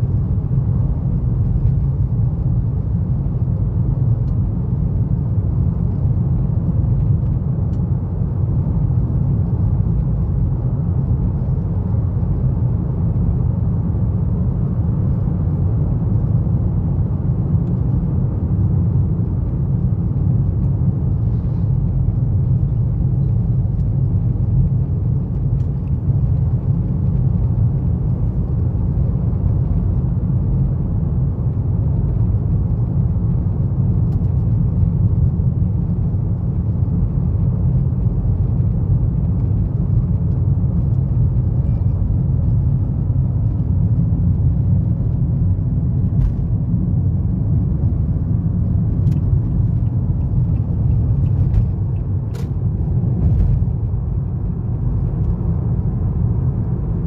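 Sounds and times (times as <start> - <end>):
car cabin road and engine rumble: 0.0 - 57.0.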